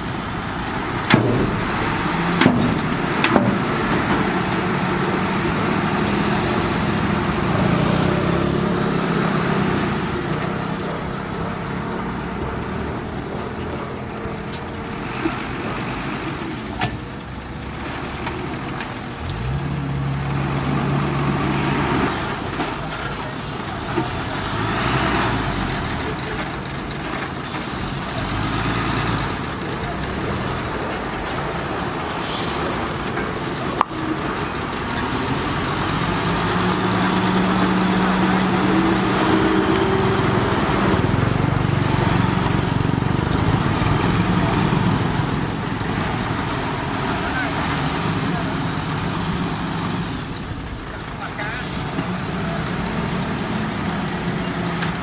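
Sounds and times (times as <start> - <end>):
diesel machine engine working: 0.0 - 55.0.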